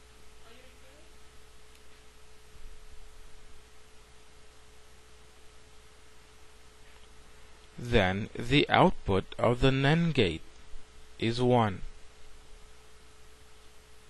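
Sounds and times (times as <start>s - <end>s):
faint constant tone: 0.0s - 14.0s.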